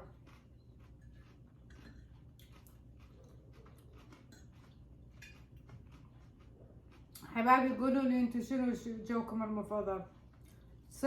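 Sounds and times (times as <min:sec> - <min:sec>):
faint chewing: 0:00.0 - 0:08.0, 0:10.0 - 0:11.0.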